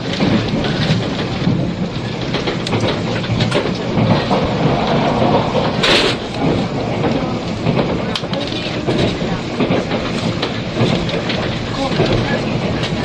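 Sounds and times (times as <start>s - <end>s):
rail joint clicks: 0.0s - 13.0s
train rumbling at speed: 0.0s - 13.0s.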